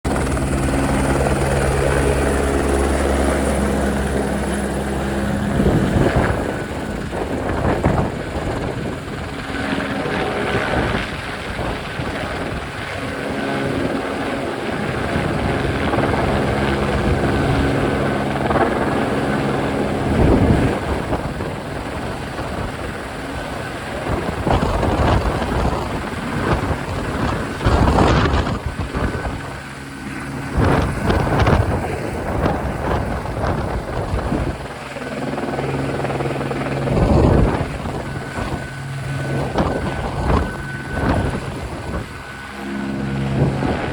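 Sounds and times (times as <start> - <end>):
helicopter engine and rotor: 0.0 - 43.9
gusts of noise: 0.1 - 43.9.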